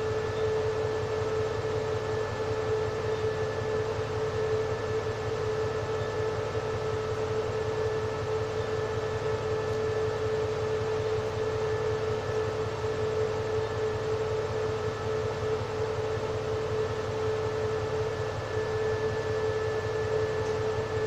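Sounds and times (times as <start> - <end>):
locomotive engine idling hum: 0.0 - 21.0.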